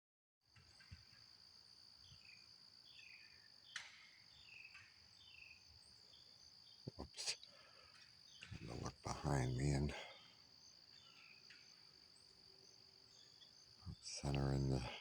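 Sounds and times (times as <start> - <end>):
high insect trill: 0.8 - 15.0.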